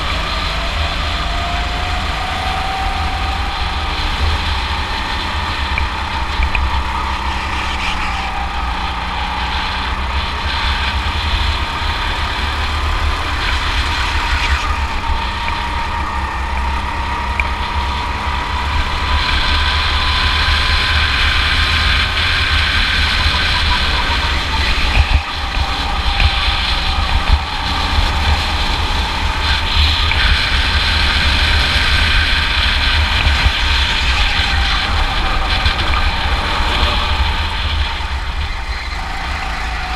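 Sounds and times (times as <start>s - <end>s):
go-kart engine: 0.0s - 39.9s
low rumble of wind and vibration: 0.0s - 39.9s.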